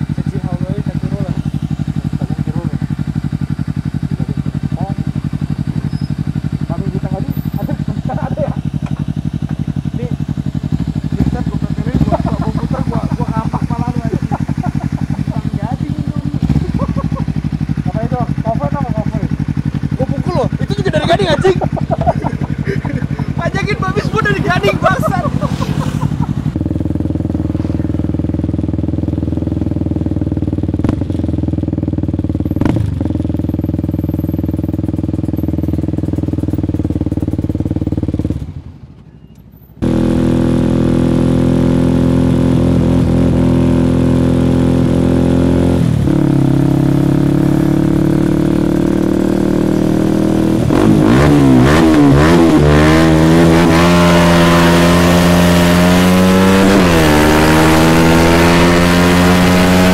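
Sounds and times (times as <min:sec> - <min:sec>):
motorcycle engine revving: 0:00.0 - 0:39.0, 0:39.8 - 0:59.9.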